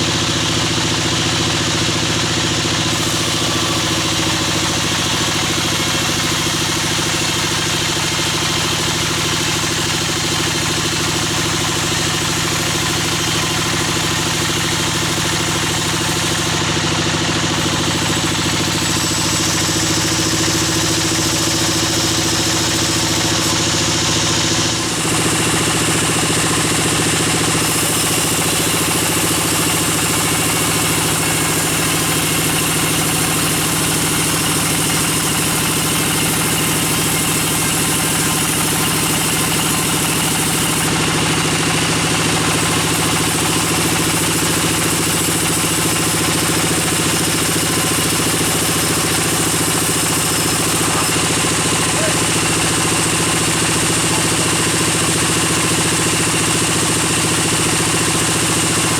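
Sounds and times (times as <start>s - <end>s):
band saw motor humming: 0.0s - 58.9s.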